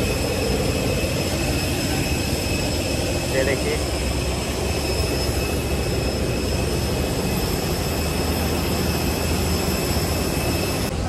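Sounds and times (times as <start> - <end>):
high-pitched jet whines: 0.0 - 11.0
jet aircraft roar: 0.0 - 11.0.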